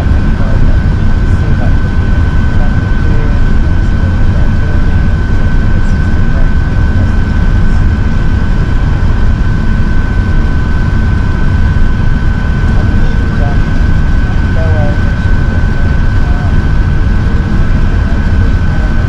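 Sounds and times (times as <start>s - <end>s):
airplane cabin rumble: 0.0s - 19.0s
high-pitched whine: 0.0s - 19.0s.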